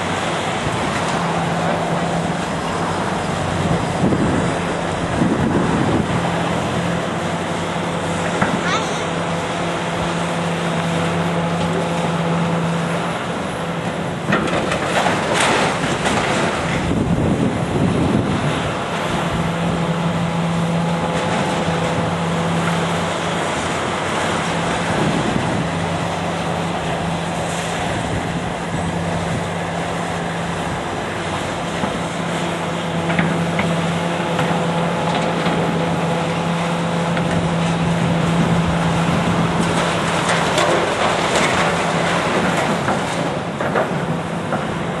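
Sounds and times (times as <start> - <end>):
demolition machinery engine hum: 0.0 - 45.0.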